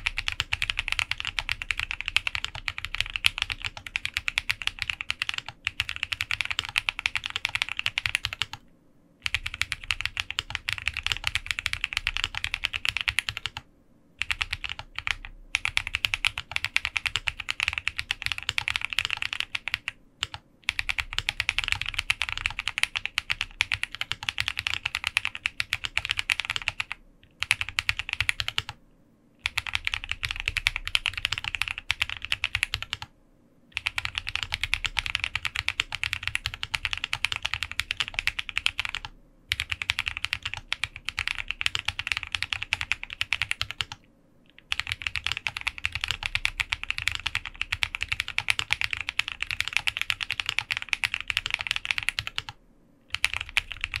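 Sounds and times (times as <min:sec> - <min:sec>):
fast mechanical keyboard typing: 0:00.0 - 0:08.6, 0:09.2 - 0:13.6, 0:14.2 - 0:28.8, 0:29.4 - 0:33.1, 0:33.7 - 0:54.0.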